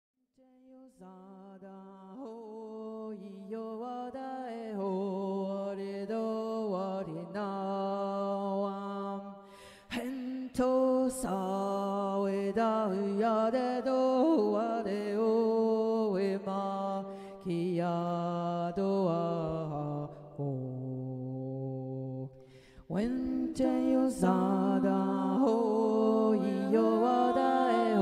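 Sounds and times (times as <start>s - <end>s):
solo voice chanting: 0.4s - 28.0s.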